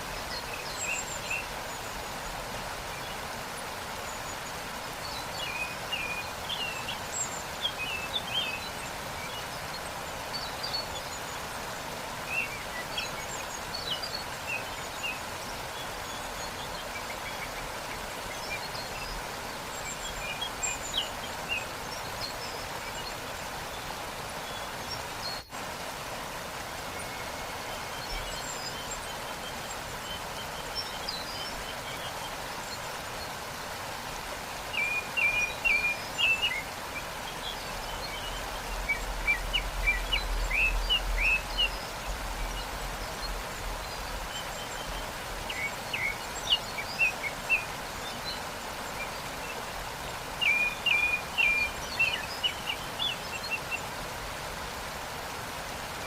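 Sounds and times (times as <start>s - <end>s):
small birds chirping: 0.0s - 56.0s
waterfall rushing: 0.0s - 56.0s.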